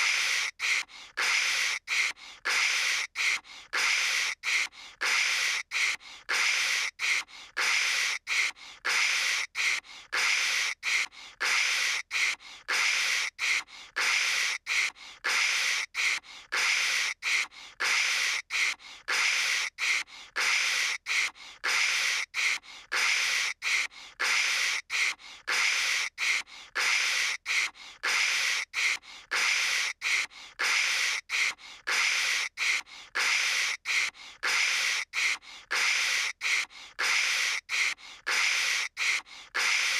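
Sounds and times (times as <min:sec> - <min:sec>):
person imitating static by mouth: 0:00.0 - 0:39.9.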